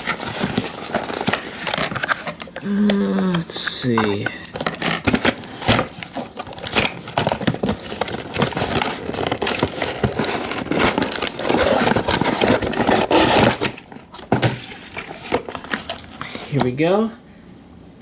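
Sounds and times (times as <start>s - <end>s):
packaging crinkling and crackling: 0.0s - 16.6s.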